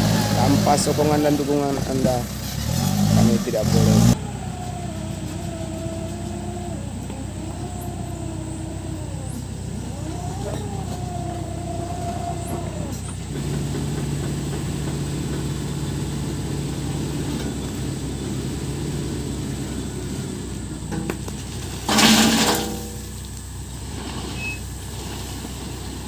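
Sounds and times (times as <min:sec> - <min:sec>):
wavering whine: 0:00.0 - 0:23.7
diesel engine running: 0:00.0 - 0:26.0.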